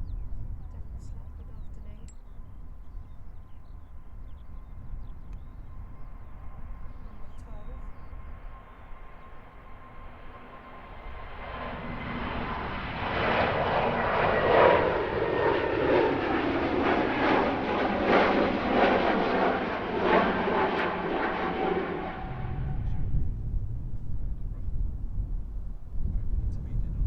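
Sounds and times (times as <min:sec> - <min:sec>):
airliner engines passing: 0:00.0 - 0:27.0.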